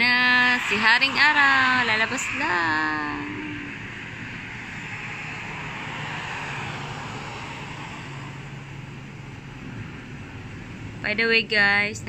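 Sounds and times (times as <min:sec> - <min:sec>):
low engine hum: 0:00.0 - 0:12.0
steady rushing noise: 0:00.0 - 0:12.0.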